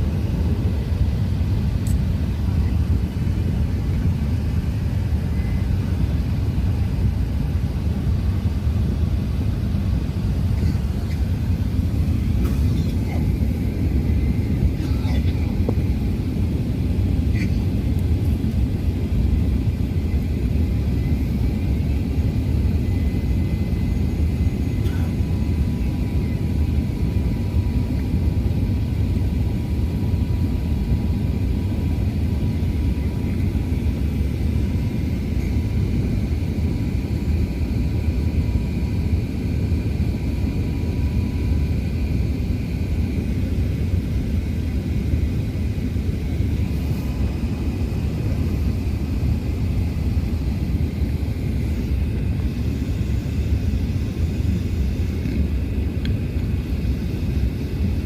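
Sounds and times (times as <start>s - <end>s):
airplane cabin engine rumble: 0.0s - 58.0s
faint steady whine: 0.0s - 58.0s.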